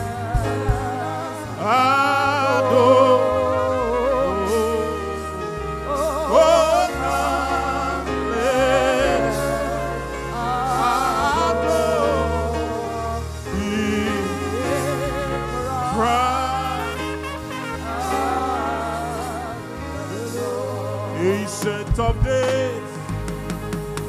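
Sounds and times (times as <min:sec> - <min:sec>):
gospel singing with vibrato: 0:00.0 - 0:24.0
held chords: 0:00.0 - 0:24.0
sustained bass line: 0:00.0 - 0:24.0.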